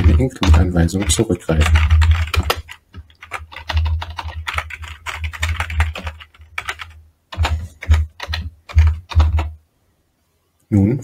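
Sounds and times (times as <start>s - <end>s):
typing on computer keyboard: 0.0s - 9.5s.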